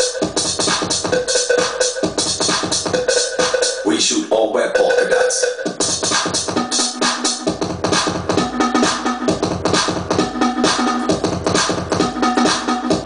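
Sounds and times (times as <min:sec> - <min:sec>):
deep bass line: 0:00.0 - 0:13.0
electronic house music beat: 0:00.0 - 0:13.0.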